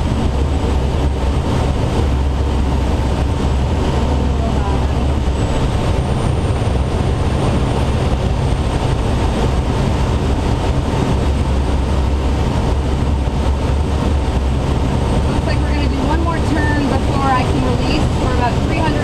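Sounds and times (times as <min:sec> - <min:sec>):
low wind rumble on microphone: 0:00.0 - 0:19.0
rush of air in cockpit: 0:00.0 - 0:19.0.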